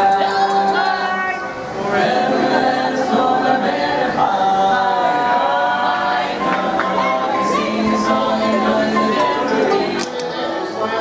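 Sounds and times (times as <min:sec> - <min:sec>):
quartet singing a cappella: 0:00.0 - 0:11.0.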